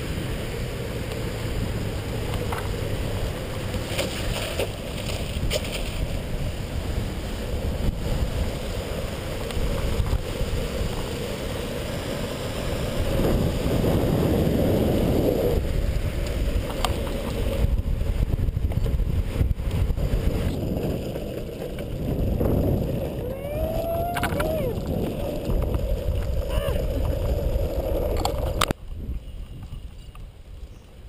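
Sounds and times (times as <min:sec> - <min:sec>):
wheels rolling over asphalt: 0:00.0 - 0:31.0
wind buffeting microphone: 0:00.9 - 0:31.0.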